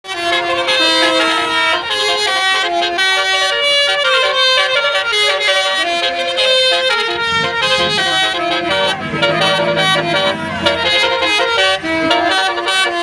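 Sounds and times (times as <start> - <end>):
bus air horn playing a tune: 0.0 - 13.0.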